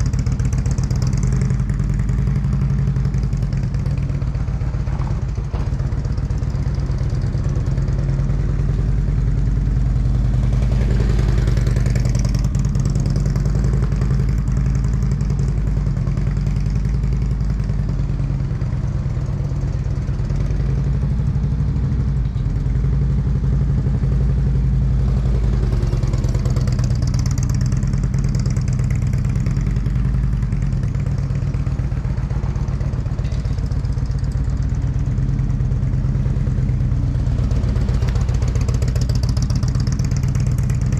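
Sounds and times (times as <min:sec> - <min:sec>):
motorcycle engine at low speed: 0:00.0 - 0:40.9.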